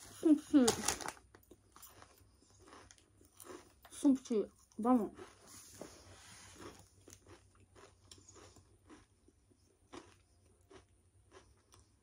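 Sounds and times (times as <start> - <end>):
person chewing crisps: 0.0 - 12.0.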